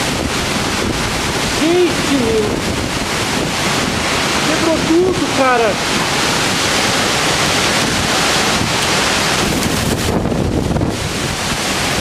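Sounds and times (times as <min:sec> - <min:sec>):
heavy driving rain: 0:00.0 - 0:12.0
storm-force wind: 0:00.0 - 0:12.0
wind gusts buffeting microphone: 0:00.0 - 0:12.0.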